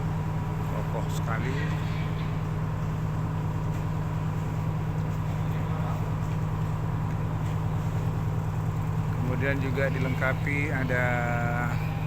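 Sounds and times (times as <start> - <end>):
ship engine idling hum: 0.0 - 12.0.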